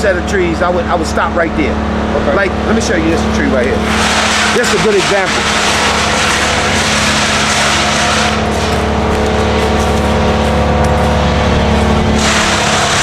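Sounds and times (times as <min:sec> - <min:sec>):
heavy machinery engine running: 0:00.6 - 0:13.0.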